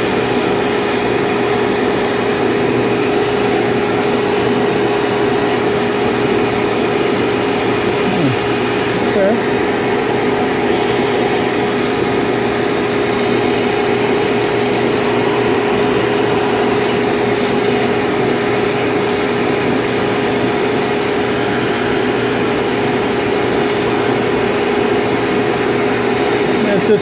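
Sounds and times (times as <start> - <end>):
vacuum brush on condenser coils: 0.0 - 27.0
vacuum cleaner running with whine: 0.0 - 27.0.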